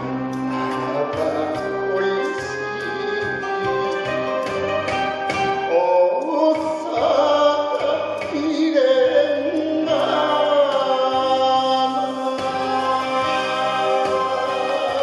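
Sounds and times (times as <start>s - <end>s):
man singing into a microphone: 0.0s - 4.5s, 5.6s - 15.0s
instrumental backing track: 0.0s - 15.0s.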